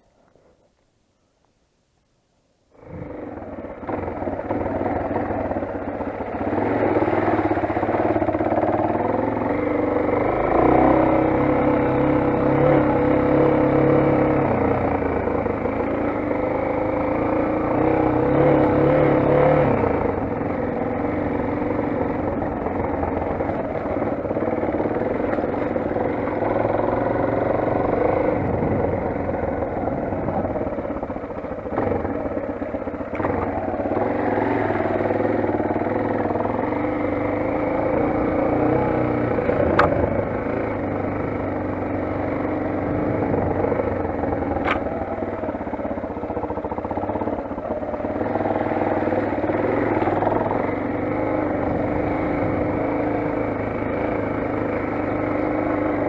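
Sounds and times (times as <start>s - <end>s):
motorcycle engine revving: 2.8s - 56.0s.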